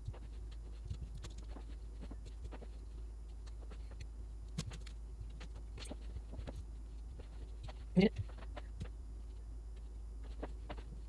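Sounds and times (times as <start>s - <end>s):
faint clicks and taps: 0.0s - 11.0s
steady low hum: 0.0s - 11.0s.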